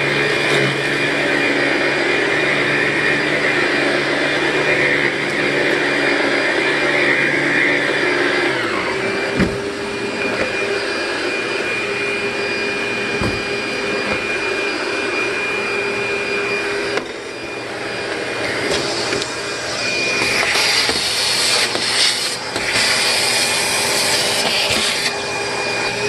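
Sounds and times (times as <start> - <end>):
upright vacuum running: 0.0 - 26.0.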